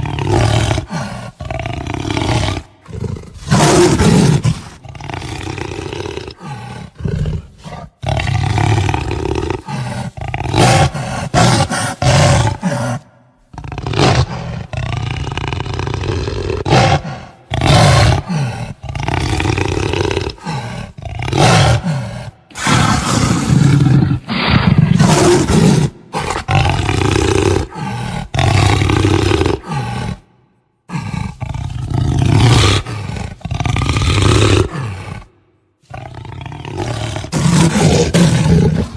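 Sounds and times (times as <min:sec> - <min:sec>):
jaguar growling and roaring: 0:00.0 - 0:30.3, 0:30.9 - 0:38.9.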